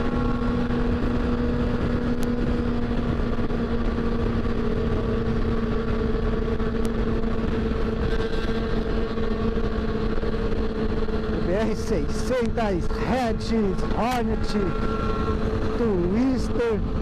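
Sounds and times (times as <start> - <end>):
motorcycle engine cruising: 0.0 - 17.0
wind and road rush: 0.0 - 17.0.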